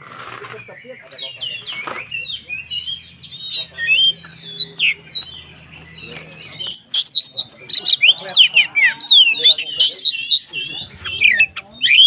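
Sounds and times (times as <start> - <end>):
bird singing whistles and chirps: 0.4 - 12.0.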